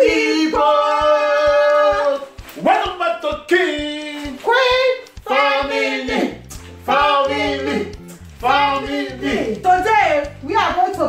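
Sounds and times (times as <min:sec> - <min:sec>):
voices singing long notes: 0:00.0 - 0:10.3
steady low beat: 0:00.0 - 0:10.7.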